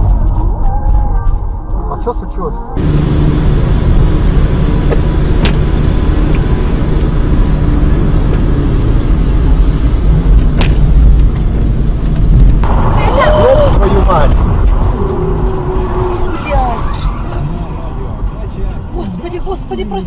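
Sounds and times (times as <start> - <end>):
car interior rumble: 2.8 - 20.0.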